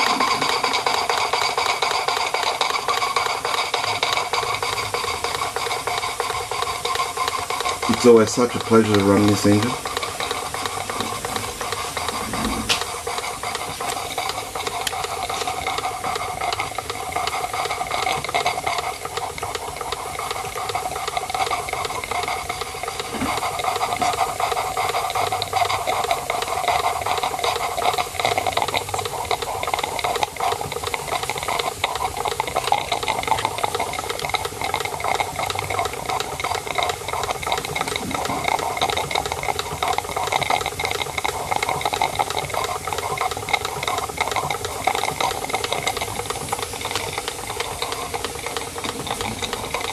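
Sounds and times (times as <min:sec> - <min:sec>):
model steam engine chuffing: 0:00.0 - 0:49.9
steam hiss: 0:00.0 - 0:49.9.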